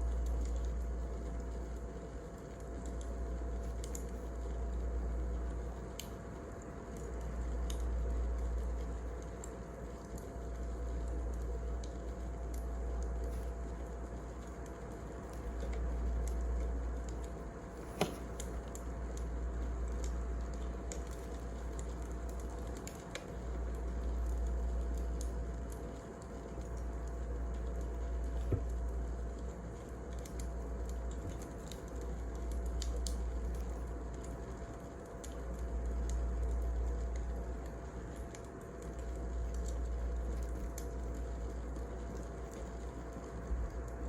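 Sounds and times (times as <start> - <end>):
wood fire burning: 0.0 - 44.0.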